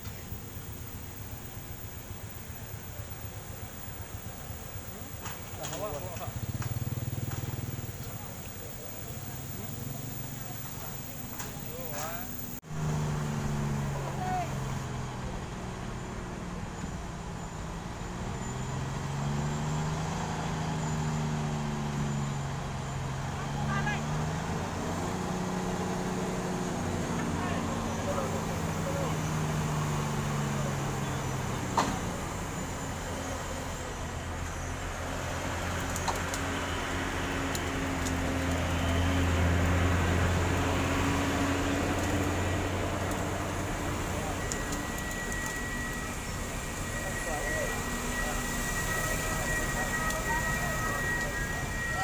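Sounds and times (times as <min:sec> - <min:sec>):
crane diesel engine running: 0:00.0 - 0:52.0.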